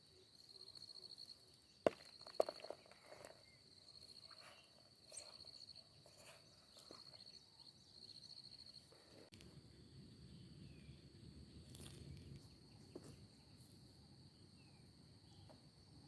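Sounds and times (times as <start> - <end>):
cricket chirping in rapid trills: 0.0 - 16.0.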